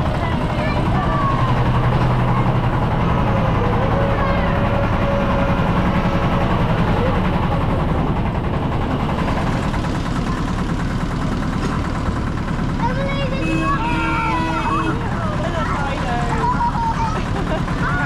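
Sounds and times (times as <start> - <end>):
carriages rolling: 0.0 - 18.0
miniature train engine hum: 0.0 - 18.0.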